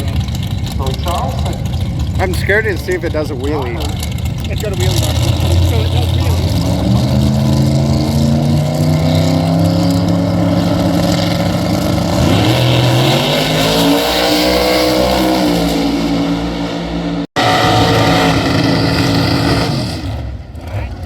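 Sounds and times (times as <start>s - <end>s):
racing car engine revving: 0.0s - 21.0s.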